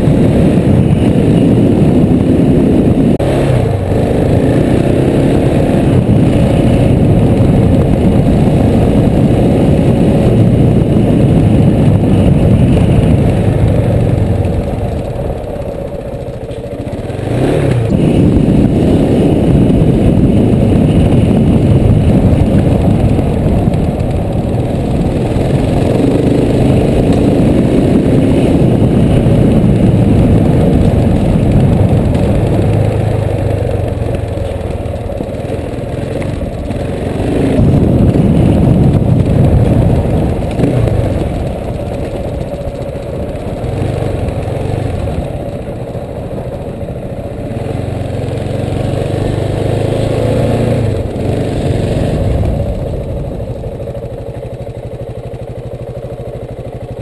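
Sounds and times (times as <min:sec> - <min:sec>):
low rumble on gravel: 0:00.0 - 0:48.0, 0:50.3 - 0:57.0
motorcycle engine revving: 0:00.0 - 0:57.0.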